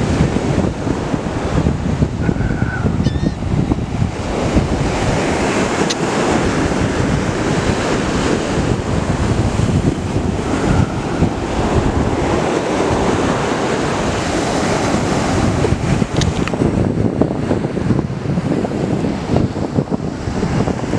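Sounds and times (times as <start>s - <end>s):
surf washing onto beach: 0.0s - 20.9s
wind buffeting microphone: 0.0s - 20.9s.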